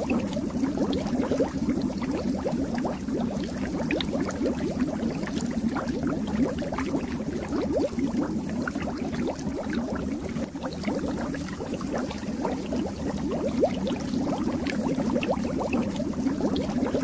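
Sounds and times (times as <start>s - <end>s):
aquarium bubbles gurgling: 0.0s - 17.0s.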